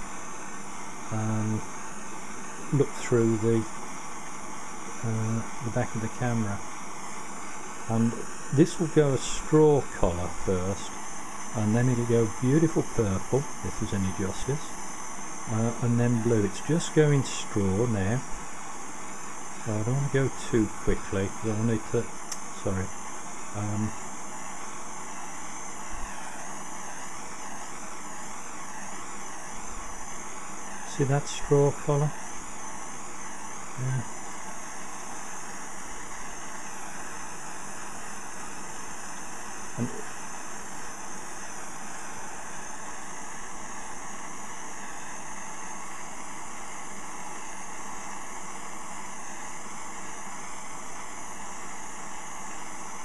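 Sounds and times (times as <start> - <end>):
gas torch hissing: 0.0 - 53.0.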